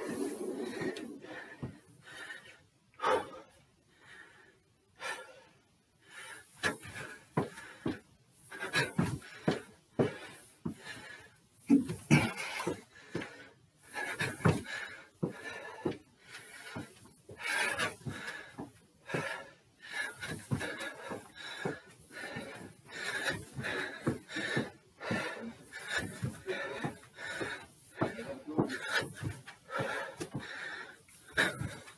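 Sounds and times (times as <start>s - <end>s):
man panting hard: 0.0s - 31.9s
footsteps on stairs: 0.1s - 2.3s, 6.6s - 31.9s.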